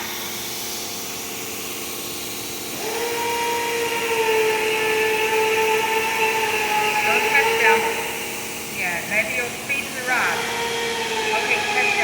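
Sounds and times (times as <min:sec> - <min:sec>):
hot-air welder hissing: 0:00.0 - 0:12.0
motor whine: 0:00.0 - 0:12.0.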